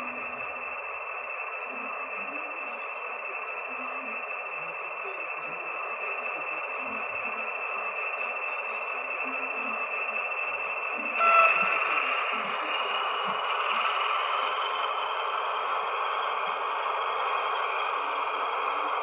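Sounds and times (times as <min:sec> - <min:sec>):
model train motor whirring: 0:00.0 - 0:19.0
wheels rolling on rails: 0:00.0 - 0:19.0.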